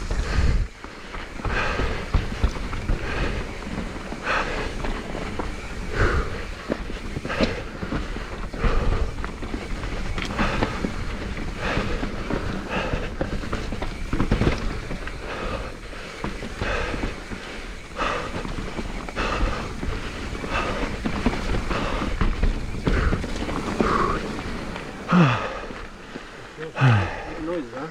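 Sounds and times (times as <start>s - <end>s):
mountain bike rumbling on trail: 0.0s - 27.9s
rider breathing hard: 0.0s - 27.9s.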